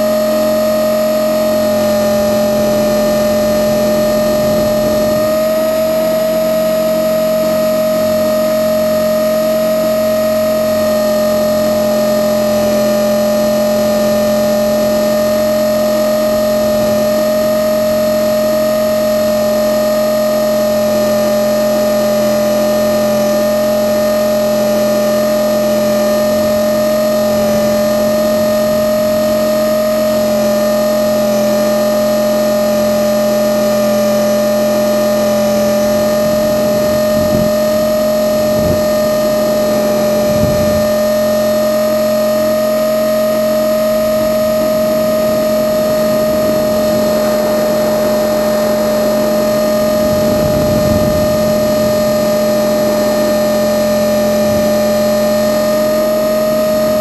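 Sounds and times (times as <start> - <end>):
rc helicopter motor whine: 0.0 - 57.0.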